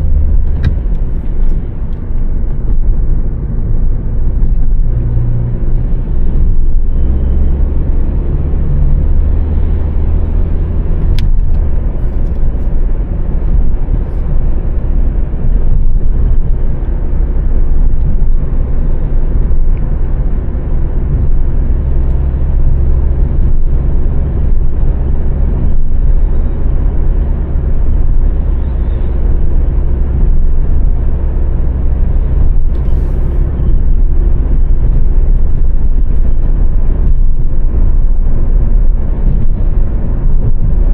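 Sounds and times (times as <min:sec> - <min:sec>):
car engine drone and road noise: 0:00.0 - 0:40.9.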